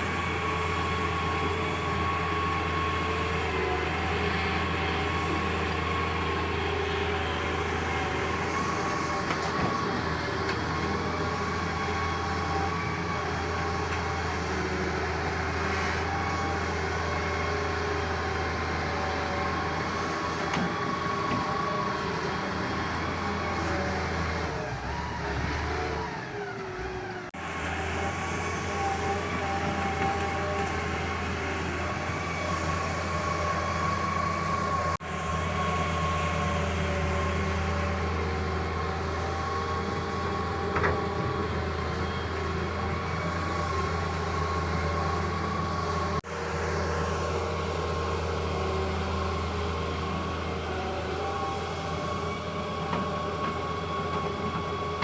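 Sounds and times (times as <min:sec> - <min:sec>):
excavator diesel engine drone: 0:00.0 - 0:55.0.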